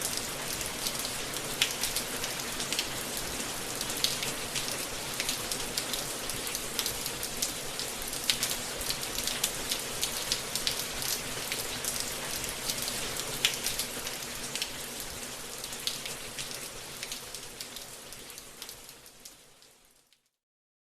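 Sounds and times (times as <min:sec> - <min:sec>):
steady rain falling: 0:00.0 - 0:20.4.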